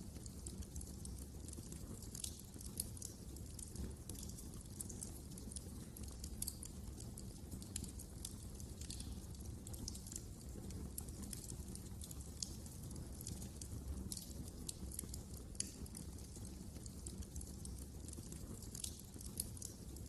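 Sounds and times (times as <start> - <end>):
fire popping and snapping: 0.0 - 20.0
wood fire crackling: 0.0 - 20.0.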